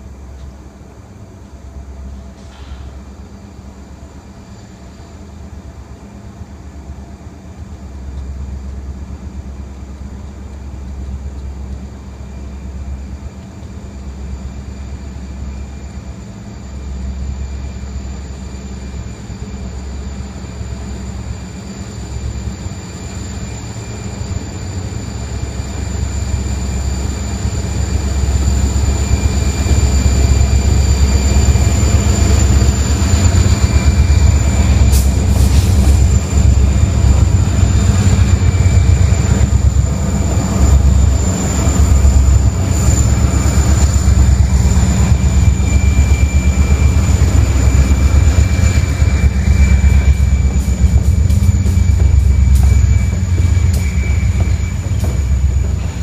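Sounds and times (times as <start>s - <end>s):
diesel locomotive engines rumbling: 0.0s - 56.0s
high whine: 10.9s - 56.0s.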